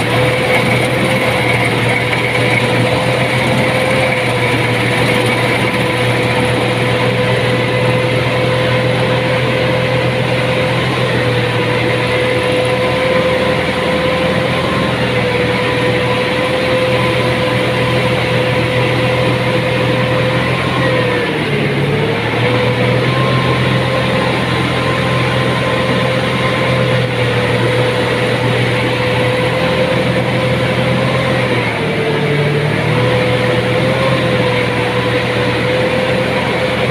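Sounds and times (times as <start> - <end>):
combine harvester running: 0.0 - 36.9.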